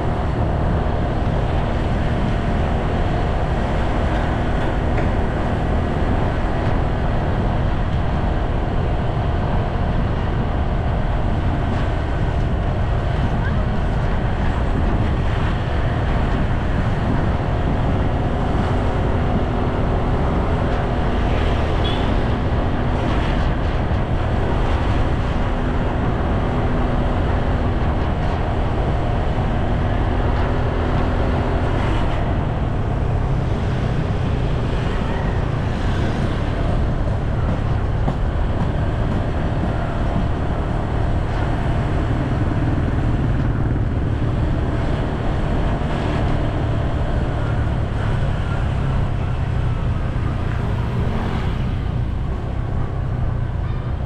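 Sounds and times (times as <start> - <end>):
faint engine hum: 0.0 - 54.0
road and vehicle noise: 0.0 - 54.0
wind rumbling on microphone: 0.0 - 54.0.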